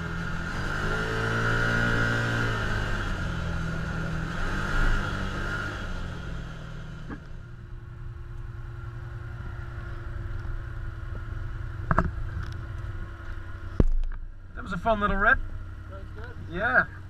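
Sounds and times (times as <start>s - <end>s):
engine running and idling: 0.0s - 17.0s.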